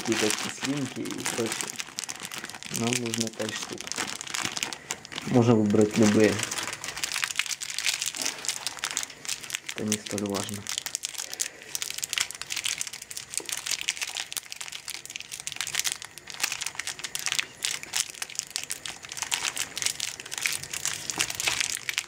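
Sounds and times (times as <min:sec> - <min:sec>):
plastic wrappers crinkling and tearing: 0:00.0 - 0:22.0.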